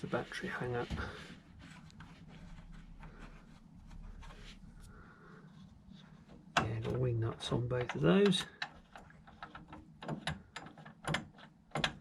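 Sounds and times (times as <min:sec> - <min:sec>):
low steady hum: 0:00.0 - 0:10.5.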